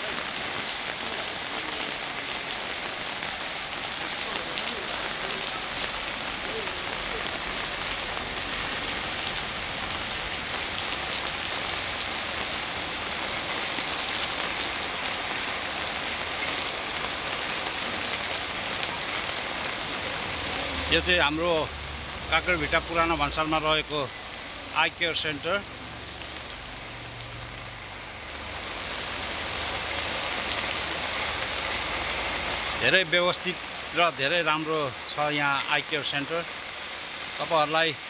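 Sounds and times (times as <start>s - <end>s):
rain on wet ground: 0.0s - 38.0s.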